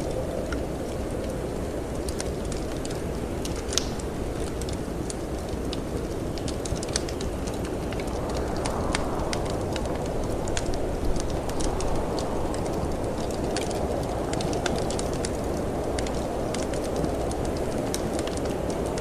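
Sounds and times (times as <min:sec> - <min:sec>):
wind blowing: 0:00.0 - 0:19.0
wood fire crackling: 0:00.0 - 0:19.0.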